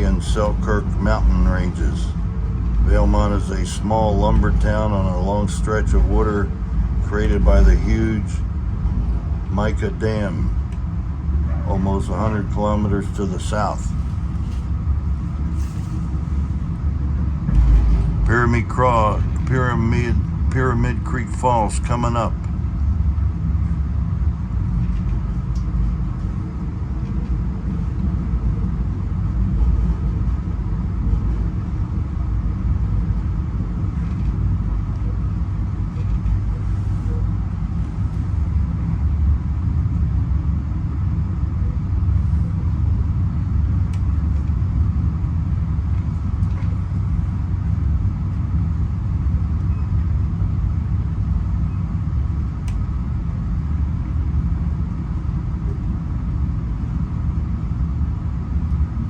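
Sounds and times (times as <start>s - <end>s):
rail car wheels rumbling on track: 0.0s - 59.0s.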